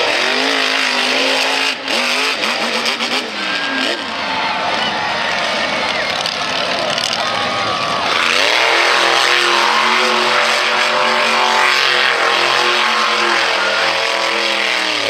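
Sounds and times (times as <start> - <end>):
truck engine at high revs: 0.0 - 15.0.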